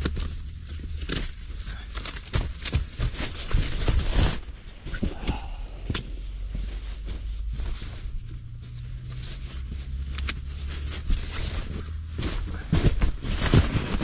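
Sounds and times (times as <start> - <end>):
foam sleeping pad rustling: 0.0 - 14.0
low steady rumble: 0.0 - 14.0.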